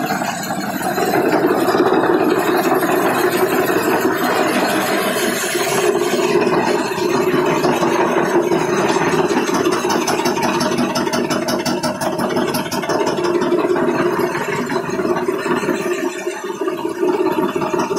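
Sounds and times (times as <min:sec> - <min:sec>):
floor grinding machine humming: 0:00.0 - 0:17.9.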